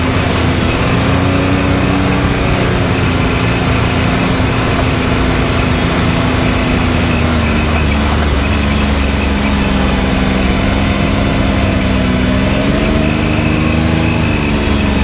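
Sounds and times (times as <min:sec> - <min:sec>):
side-by-side engine running: 0:00.0 - 0:15.0.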